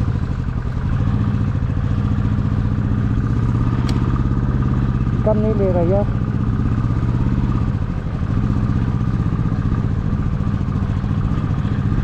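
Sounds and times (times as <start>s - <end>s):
motorcycle engine labouring: 0.0s - 12.0s.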